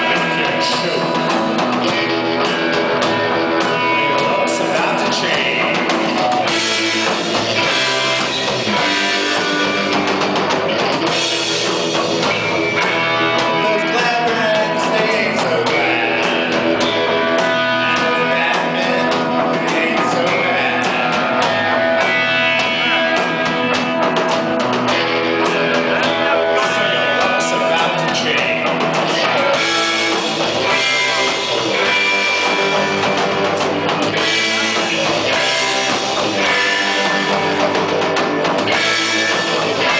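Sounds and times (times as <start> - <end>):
person singing: 0.0 - 10.0, 12.7 - 39.9
drum kit: 0.0 - 39.9
electric guitar: 0.0 - 39.9.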